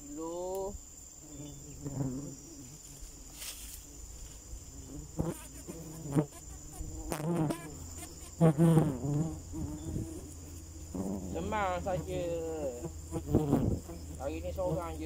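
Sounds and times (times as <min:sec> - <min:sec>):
high-pitched insect drone: 0:00.0 - 0:15.0
insects buzzing past: 0:00.0 - 0:15.0.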